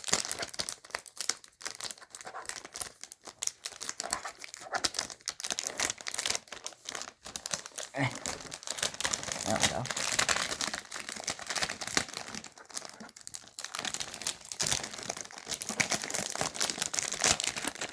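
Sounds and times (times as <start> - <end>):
packaging wrap crinkling: 0.0 - 17.9.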